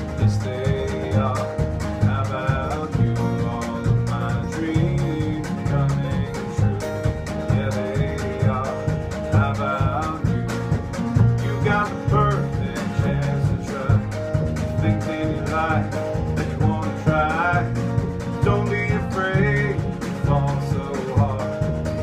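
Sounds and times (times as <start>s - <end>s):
acoustic country band playing: 0.0s - 22.0s
man singing lead vocal: 0.0s - 22.0s.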